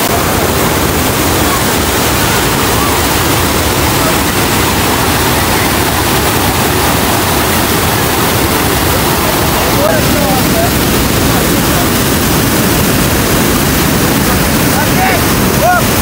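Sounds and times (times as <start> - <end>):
faint voices: 0.0 - 16.0
water rushing over weir: 0.0 - 16.0.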